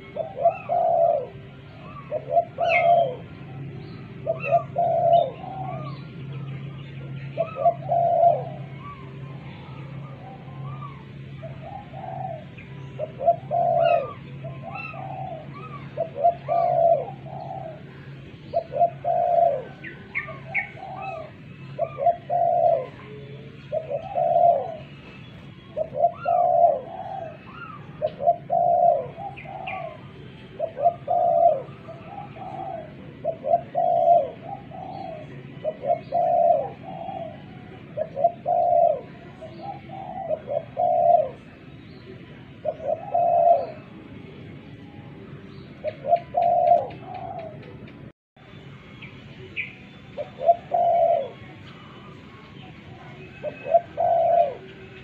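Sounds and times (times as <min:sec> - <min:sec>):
dove cooing: 0:00.0 - 0:41.6, 0:42.2 - 0:44.4, 0:45.8 - 0:48.0, 0:49.6 - 0:55.0.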